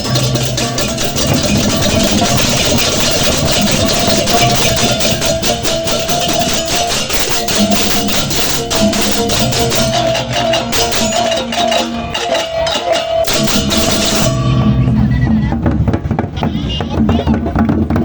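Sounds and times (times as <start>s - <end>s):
gamelan percussion music: 0.0s - 18.0s.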